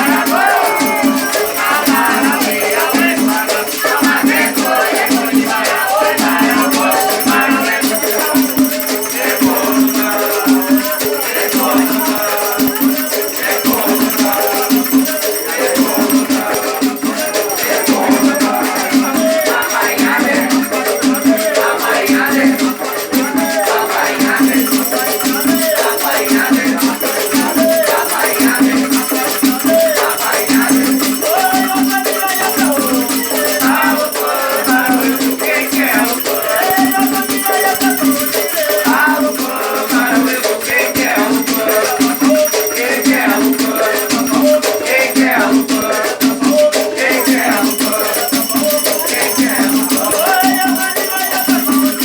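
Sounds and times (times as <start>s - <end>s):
steady repeating drum beat: 0.0s - 52.0s
voices singing: 0.0s - 52.0s.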